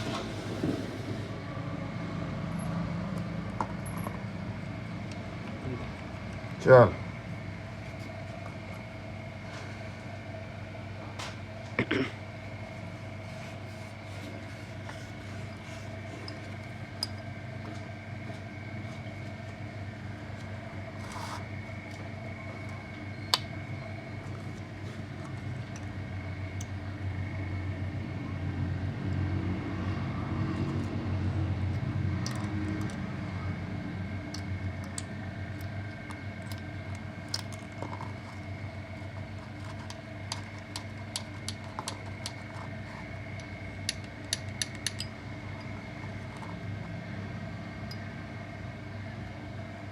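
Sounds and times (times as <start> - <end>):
machine hum: 0.0 - 49.9.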